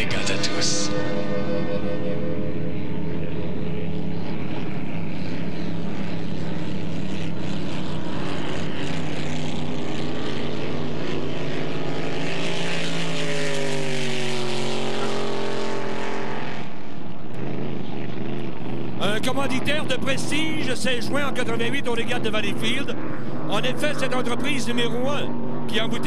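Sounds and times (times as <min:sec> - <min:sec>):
race boat engine running hard: 0:00.0 - 0:26.0.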